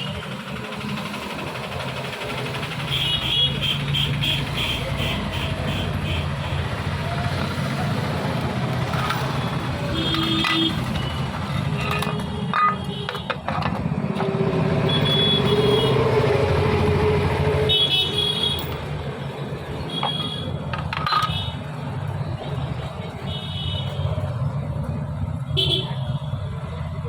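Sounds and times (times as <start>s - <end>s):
motor traffic hum: 0.0s - 27.0s.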